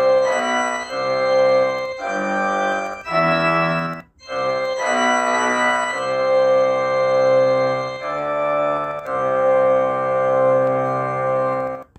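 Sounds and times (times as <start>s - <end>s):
organ-like keyboard chords: 0.0s - 11.9s.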